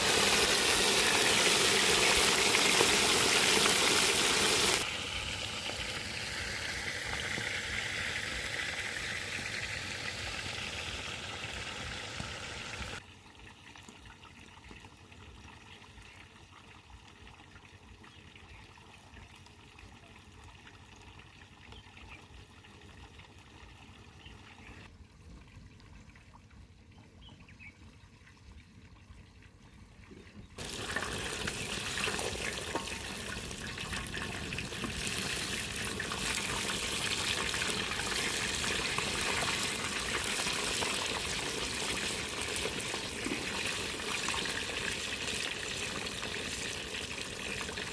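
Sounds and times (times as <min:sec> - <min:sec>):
water trickling and splashing: 0:00.0 - 0:47.9.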